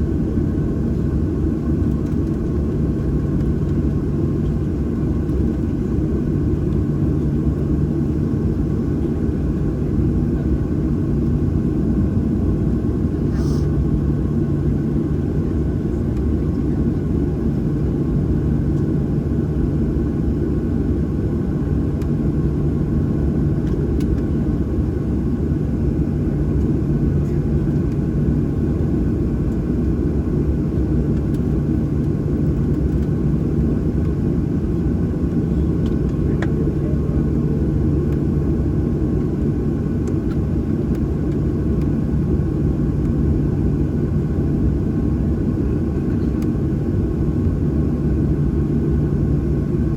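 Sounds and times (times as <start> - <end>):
airliner cabin engine hum: 0.0 - 49.9.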